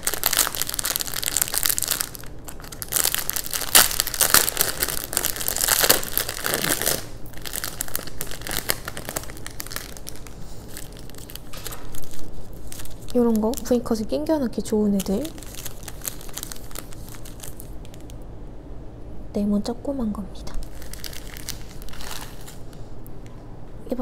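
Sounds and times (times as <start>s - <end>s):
plastic packaging crinkling: 0.0s - 18.2s, 20.5s - 22.9s.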